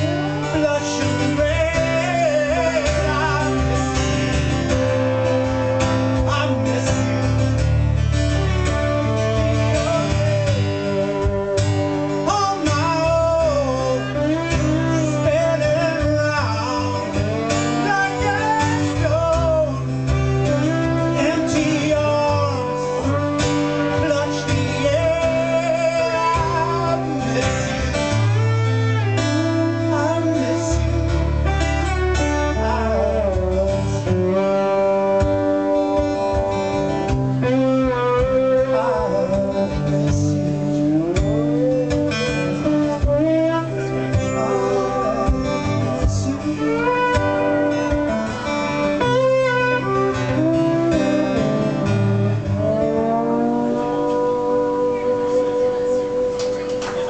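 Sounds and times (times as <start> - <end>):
acoustic guitar: 0.0 - 57.0
electric guitar with bending notes: 0.0 - 57.0
man singing: 0.0 - 57.0.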